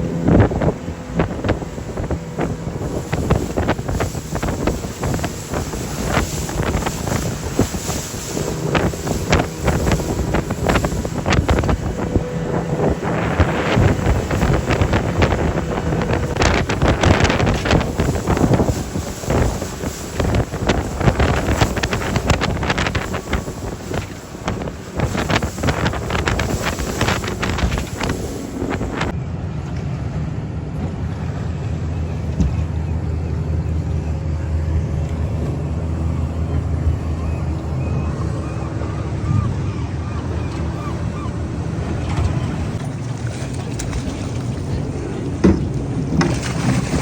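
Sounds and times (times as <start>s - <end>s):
boat motor running: 0.0s - 47.0s
wind buffeting microphone: 0.0s - 47.0s.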